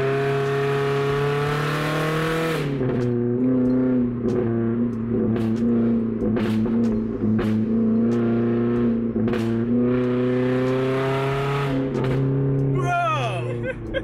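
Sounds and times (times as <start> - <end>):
loud droning car engine: 0.0 - 14.0.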